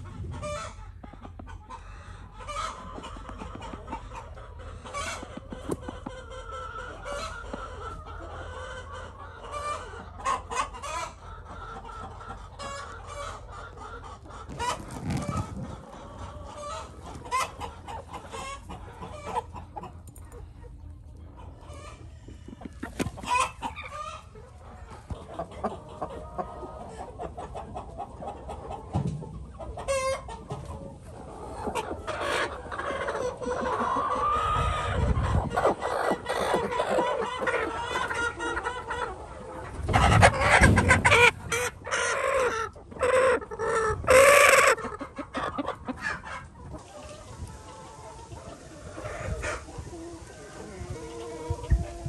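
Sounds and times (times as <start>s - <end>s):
hens clucking: 0.0s - 52.0s.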